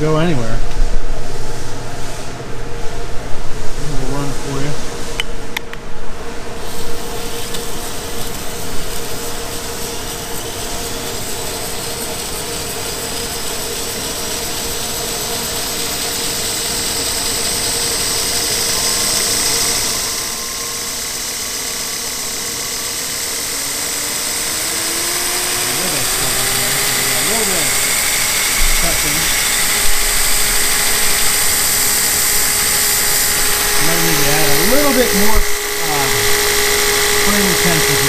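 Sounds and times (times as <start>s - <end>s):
belt grinder whirring: 6.4s - 38.0s.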